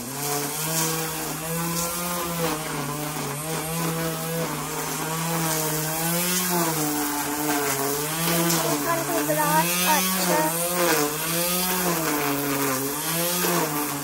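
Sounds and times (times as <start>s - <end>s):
electric string trimmer cutting grass: 0.0s - 14.0s.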